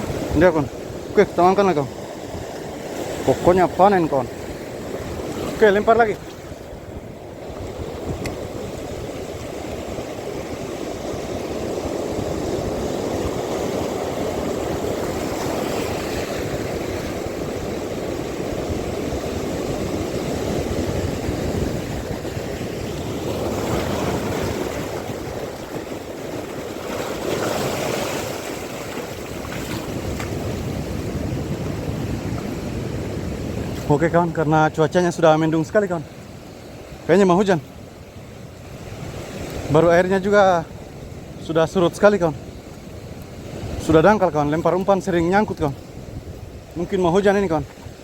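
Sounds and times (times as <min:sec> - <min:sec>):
sea waves washing: 0:00.0 - 0:48.0
wind rushing over microphone: 0:00.0 - 0:48.0.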